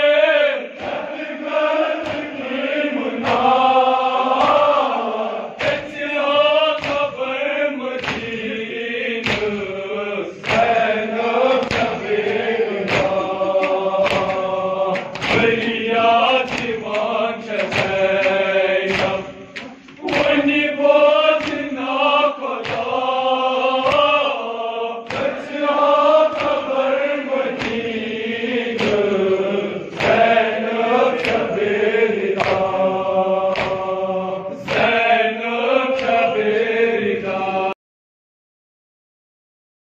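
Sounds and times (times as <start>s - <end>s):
men chanting a lament: 0.0s - 37.8s
hands slapping on chests: 0.8s - 7.2s, 7.9s - 8.5s, 9.1s - 9.7s, 10.4s - 24.3s, 25.0s - 35.1s, 35.7s - 36.4s.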